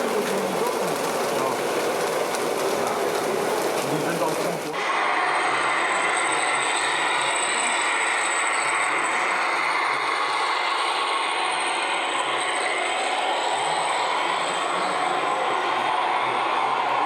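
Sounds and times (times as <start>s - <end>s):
electric motors whirring: 0.0s - 17.0s.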